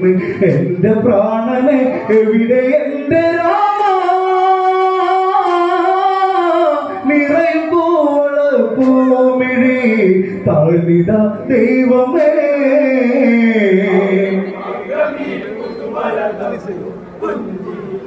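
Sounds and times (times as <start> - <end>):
person singing: 0.0 - 15.4.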